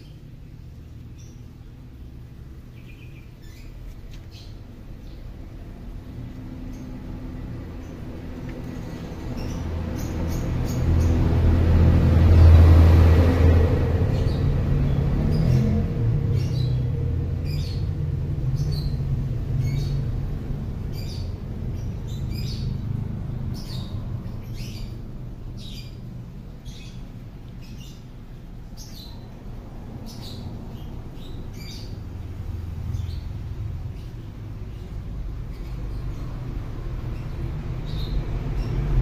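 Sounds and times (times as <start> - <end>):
bird chirping: 0.0 - 11.3, 14.1 - 36.4
steady low rumble: 0.0 - 39.0.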